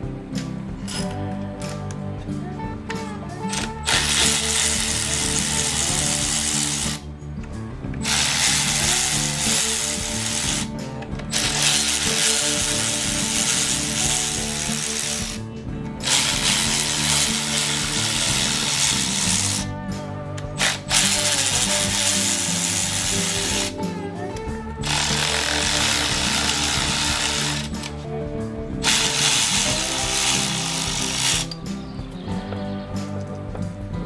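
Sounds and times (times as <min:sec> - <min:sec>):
power tool running: 0:00.0 - 0:32.6
background music: 0:00.0 - 0:34.0.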